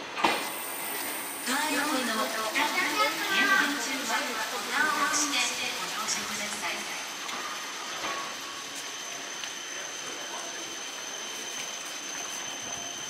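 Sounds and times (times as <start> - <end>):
high-pitched whine: 0.5 - 13.0.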